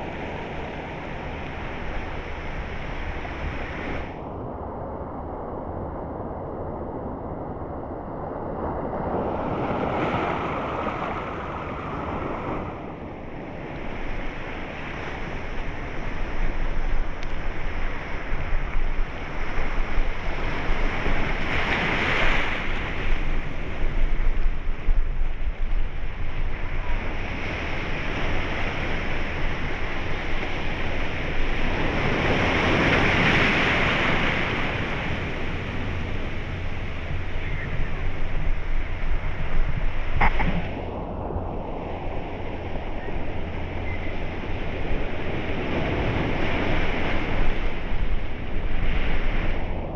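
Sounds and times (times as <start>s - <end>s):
ocean waves washing: 0.0s - 4.3s, 8.4s - 49.9s.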